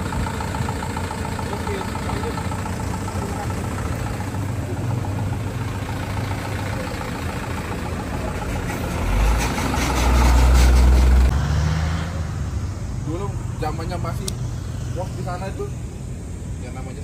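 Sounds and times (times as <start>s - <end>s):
vehicle engines idling: 0.0s - 11.5s, 12.1s - 17.0s
deep engine rumble with rattling: 0.0s - 17.0s.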